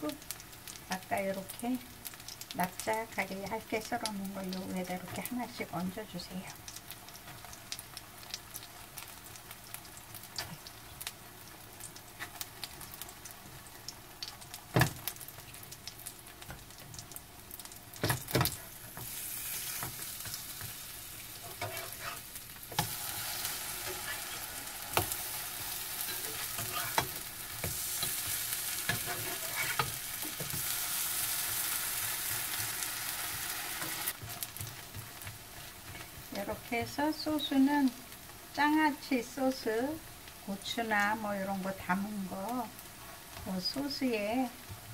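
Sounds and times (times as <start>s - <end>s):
pancakes sizzling in oil: 0.0s - 44.9s.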